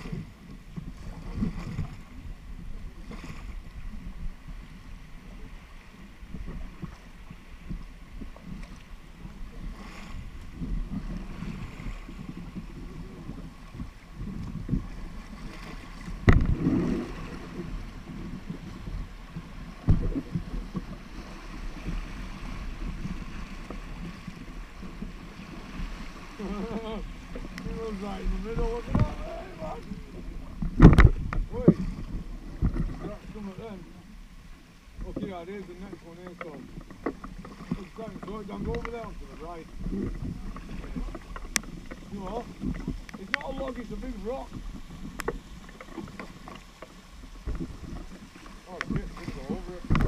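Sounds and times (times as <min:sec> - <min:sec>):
kayak paddles splashing: 0:00.0 - 0:50.0
rippling river water: 0:00.0 - 0:50.0
wind on microphone: 0:00.0 - 0:50.0.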